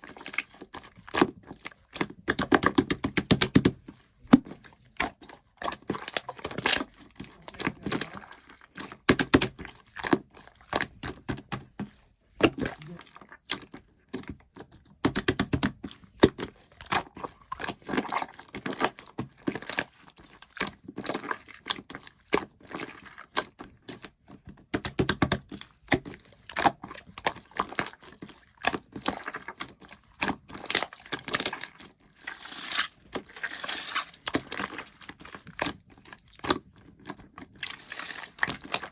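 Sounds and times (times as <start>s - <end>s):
slime squished by hand: 0.0s - 38.9s.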